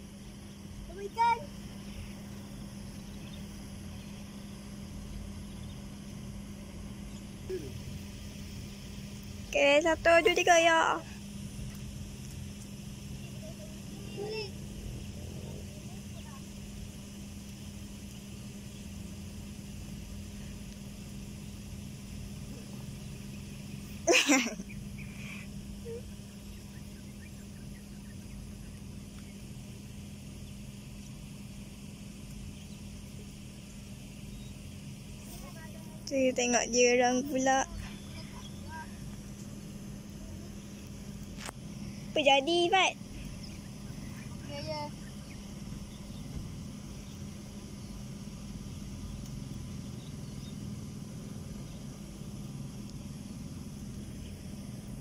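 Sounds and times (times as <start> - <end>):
background hiss: 0.0 - 55.0
constant low hum: 0.0 - 55.0.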